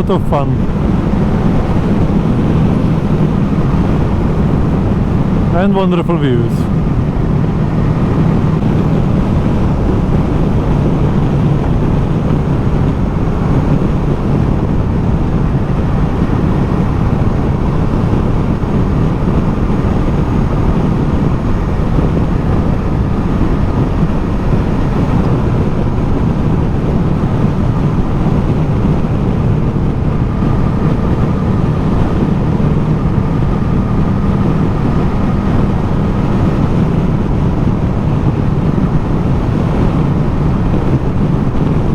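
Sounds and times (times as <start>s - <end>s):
motorcycle engine cruising: 0.0s - 41.9s
wind rush on microphone: 0.0s - 41.9s.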